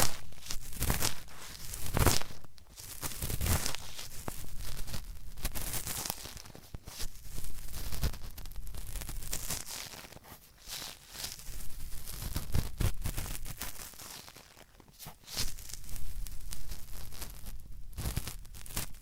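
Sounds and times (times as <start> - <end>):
scratchy scraping in microphone ear: 0.0 - 19.0.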